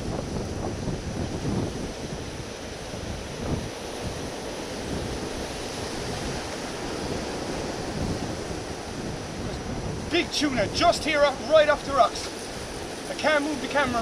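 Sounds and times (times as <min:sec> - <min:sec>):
sea washing against rocks: 0:00.0 - 0:14.0
wind buffeting microphone: 0:00.0 - 0:14.0.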